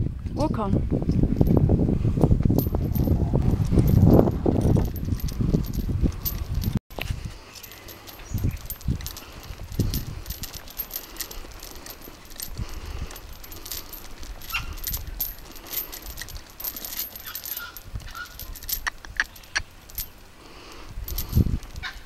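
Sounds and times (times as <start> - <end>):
metal chains jingling: 2.5 - 6.8, 7.4 - 22.0.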